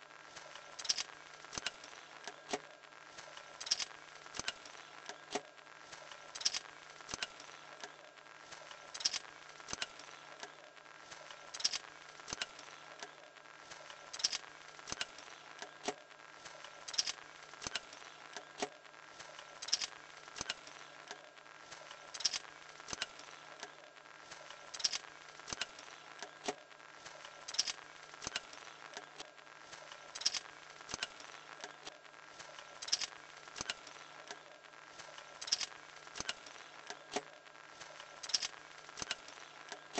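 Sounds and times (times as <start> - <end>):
clicks and ticks from linkage: 0.4 - 8.0, 8.7 - 13.2, 13.8 - 18.8, 19.4 - 23.8, 24.4 - 39.9.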